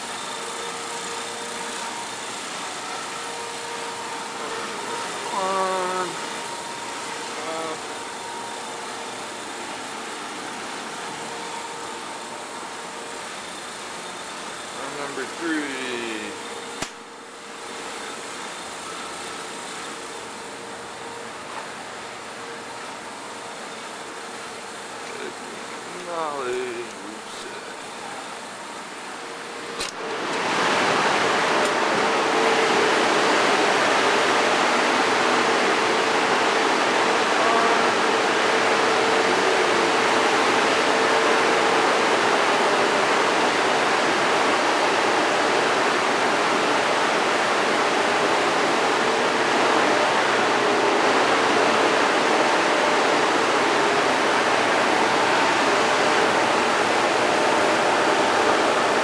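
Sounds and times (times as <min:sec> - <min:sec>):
engine-room machinery hiss: 0:00.0 - 0:59.0.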